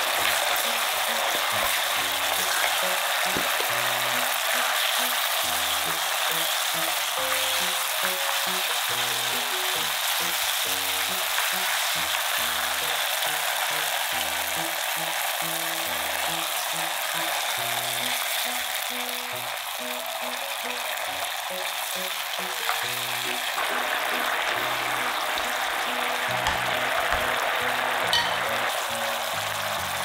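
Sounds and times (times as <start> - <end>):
radish sizzling in a frying pan: 0.0 - 30.0
soft background music: 0.0 - 30.0.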